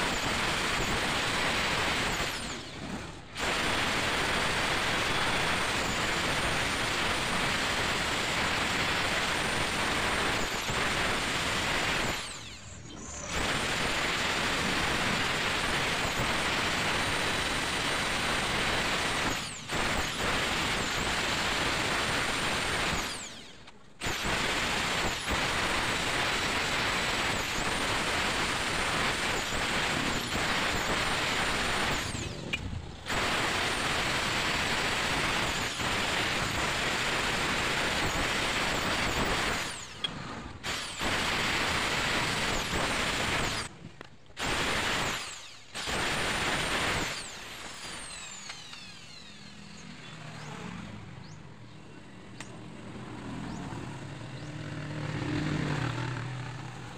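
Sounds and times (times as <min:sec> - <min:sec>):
electric drill grinding metal: 0:00.0 - 0:50.6.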